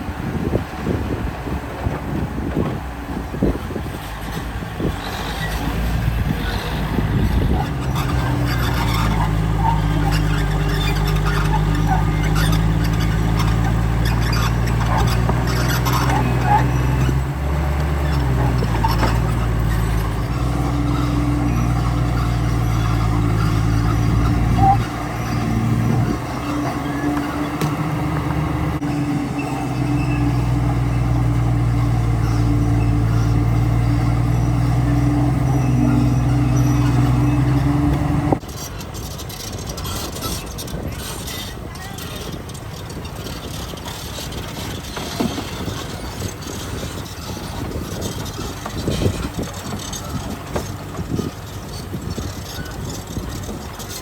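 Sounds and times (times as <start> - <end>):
diesel engine running: 0.0 - 54.0
high squeak: 4.9 - 54.0.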